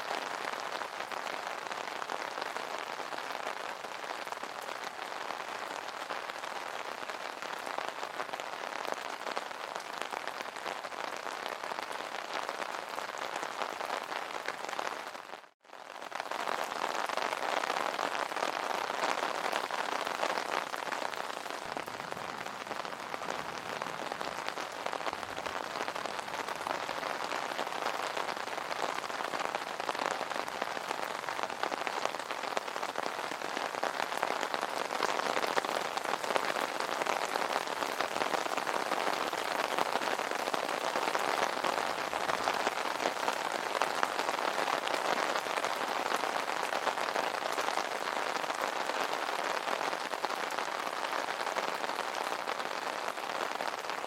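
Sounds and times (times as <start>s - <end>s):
rain pattering on an umbrella: 0.0s - 54.0s.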